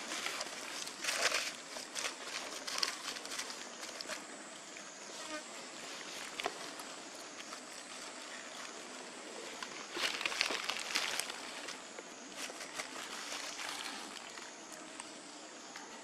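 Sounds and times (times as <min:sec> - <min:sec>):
dry leaves rustling: 0:00.0 - 0:04.2, 0:05.7 - 0:14.6
high insect drone: 0:00.0 - 0:16.0.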